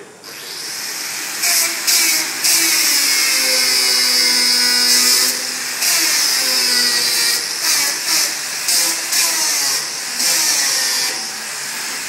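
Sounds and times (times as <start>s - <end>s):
angle grinder grinding steel: 0.3s - 12.0s.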